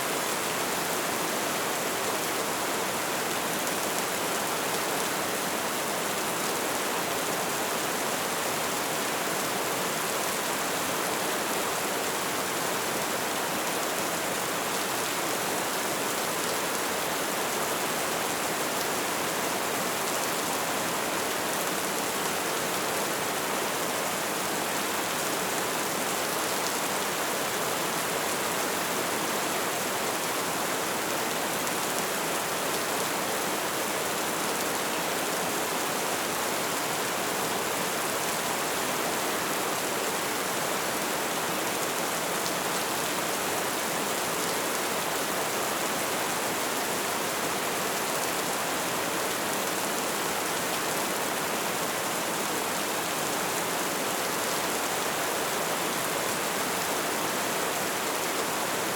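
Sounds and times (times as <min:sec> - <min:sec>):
light rain falling: 0:00.0 - 0:58.9.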